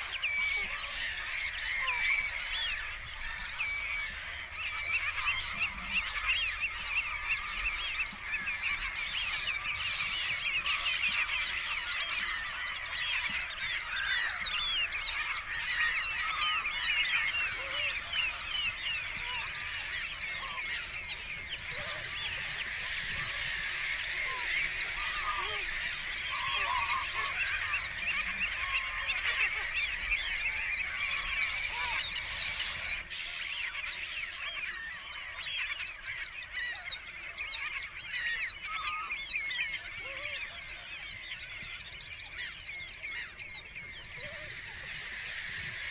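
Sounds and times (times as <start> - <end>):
flock of birds calling: 0.0 - 45.9.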